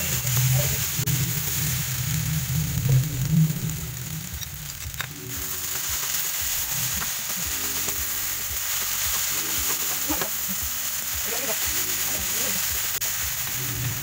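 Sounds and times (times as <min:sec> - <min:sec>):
potatoes sizzling in oil: 0:00.0 - 0:14.0.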